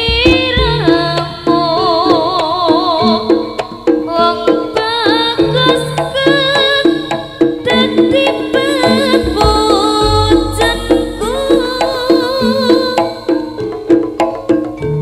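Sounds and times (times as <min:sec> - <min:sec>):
drums and pitched percussion: 0:00.0 - 0:15.0.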